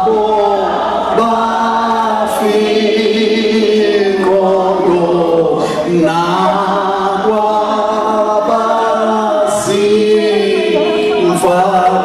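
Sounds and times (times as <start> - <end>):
group singing a slow hymn: 0.0 - 12.0.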